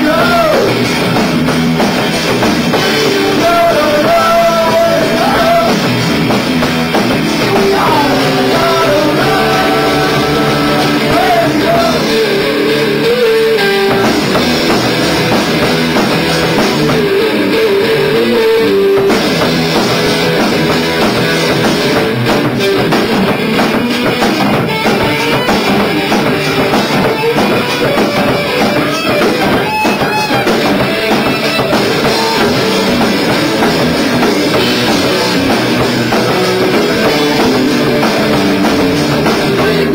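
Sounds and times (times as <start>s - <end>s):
bass guitar: 0.0s - 39.9s
drum kit: 0.0s - 39.9s
electric guitar melody: 0.0s - 39.9s.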